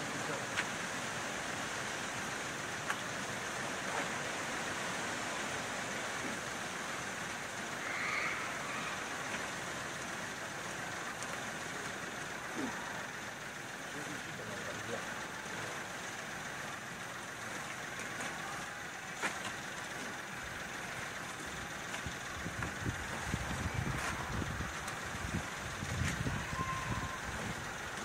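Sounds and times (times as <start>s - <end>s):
steady outdoor hiss: 0.0s - 28.0s.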